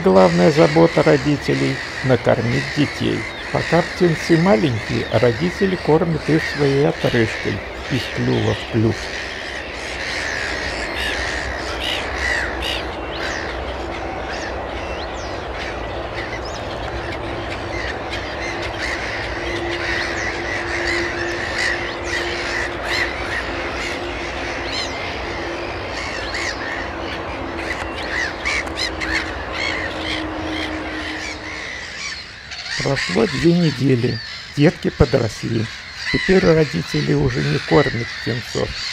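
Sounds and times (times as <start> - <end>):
gulls calling: 0.0 - 38.9.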